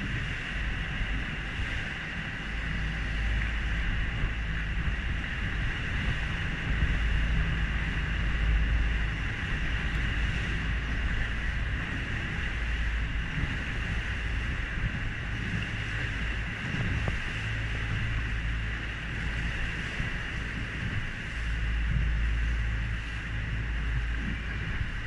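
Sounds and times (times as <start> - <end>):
boat engine running: 0.0 - 25.0
water rushing along hull: 0.0 - 25.0
wind on microphone: 0.0 - 25.0.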